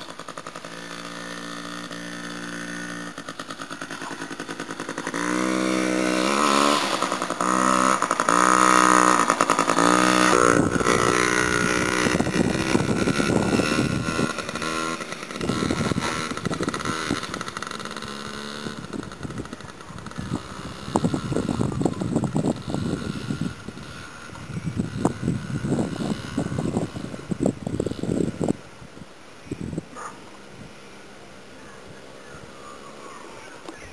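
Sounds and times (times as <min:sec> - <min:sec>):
dirt bike engine revving: 0:00.0 - 0:28.6.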